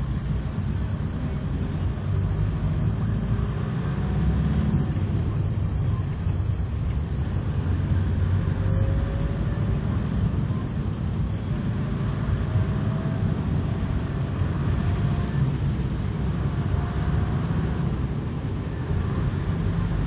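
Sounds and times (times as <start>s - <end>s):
vehicle engine and tyres on wet road: 0.0s - 20.0s.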